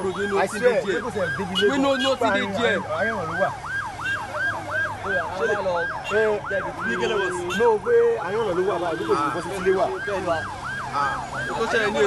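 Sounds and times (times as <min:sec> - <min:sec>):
fire engine siren yelping: 0:00.0 - 0:12.0.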